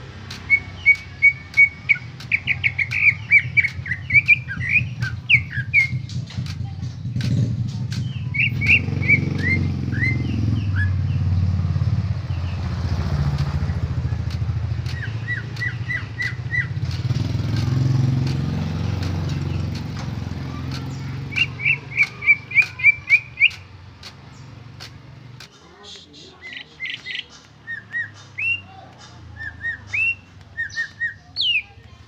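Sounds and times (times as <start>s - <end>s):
bird chirping: 0.0s - 32.0s
low engine rumble: 0.0s - 32.0s.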